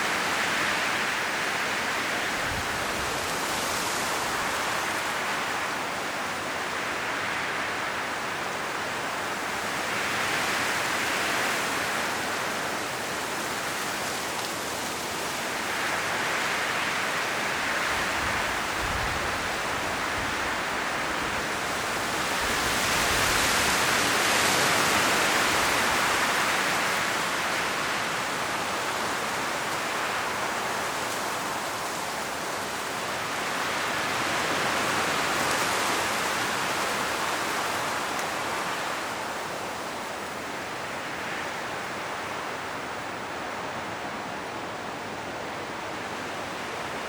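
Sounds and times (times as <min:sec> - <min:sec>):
wind rustling tree leaves: 0:00.0 - 0:47.0.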